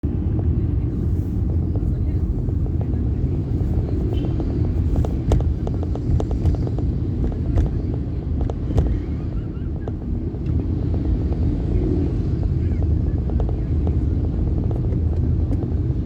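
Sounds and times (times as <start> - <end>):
vehicle rumbling on road: 0.0 - 16.0.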